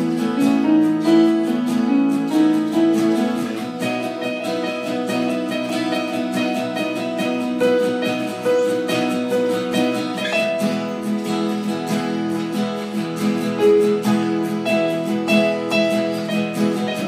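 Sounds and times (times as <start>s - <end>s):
acoustic guitar strumming chords: 0.0s - 17.0s
electric keyboard sustained notes: 0.0s - 17.0s.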